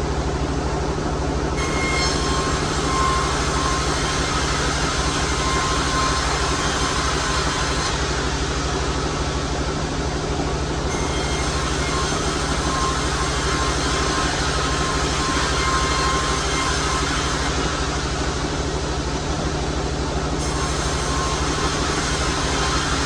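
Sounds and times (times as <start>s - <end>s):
sawmill machinery humming: 0.8s - 23.0s.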